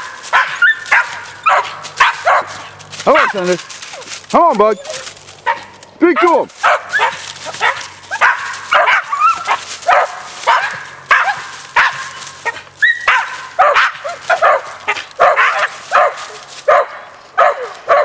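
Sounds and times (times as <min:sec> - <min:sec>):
dogs barking: 0:00.0 - 0:18.0.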